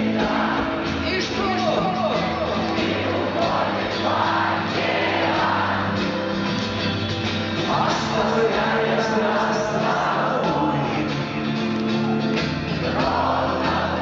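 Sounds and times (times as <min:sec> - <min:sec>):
rock song with singer: 0:00.0 - 0:14.0.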